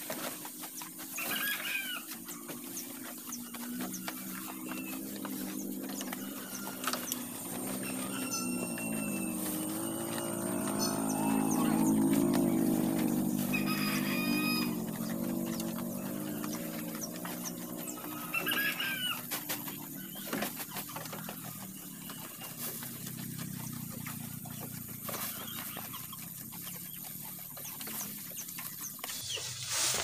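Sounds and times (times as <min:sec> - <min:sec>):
goats eating grass: 0:00.0 - 0:29.9.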